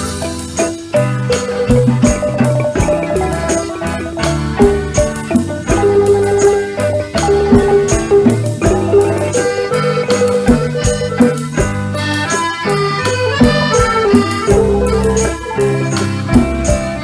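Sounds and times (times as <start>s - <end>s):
bass: 0.0s - 17.0s
reedy keyboard melody: 0.0s - 17.0s
steady drum beat: 0.0s - 17.0s.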